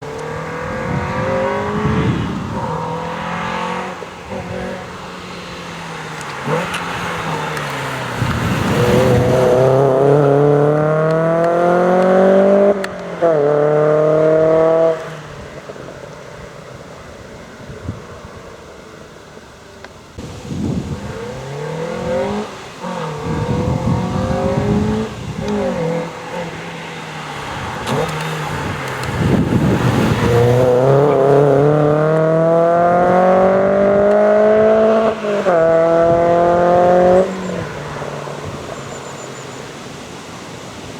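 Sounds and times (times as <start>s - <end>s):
car engine accelerating hard: 0.0s - 16.0s, 20.1s - 40.9s.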